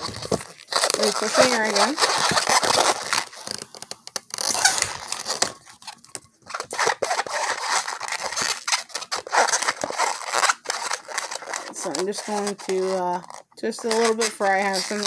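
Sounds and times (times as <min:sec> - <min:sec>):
rubber balloon rubbing: 0:00.0 - 0:15.0.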